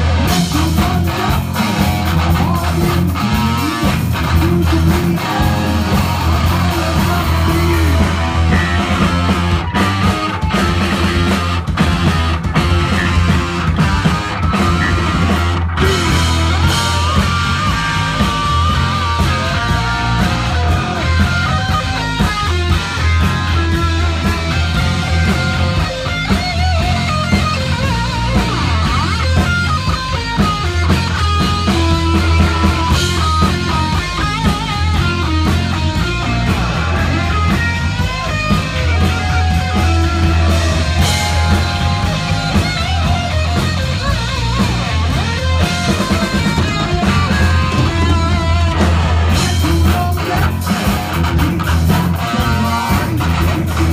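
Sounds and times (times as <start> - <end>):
bass guitar: 0.0 - 53.9
distorted electric guitar lead: 0.0 - 53.9
drums with crashing cymbals: 0.0 - 53.9.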